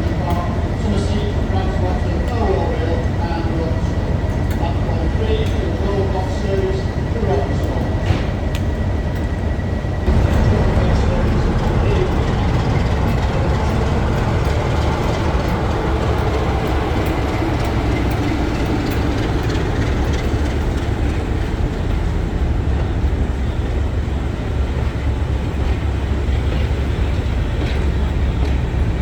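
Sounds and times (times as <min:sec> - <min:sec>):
diesel locomotive rumble: 0:00.0 - 0:29.0.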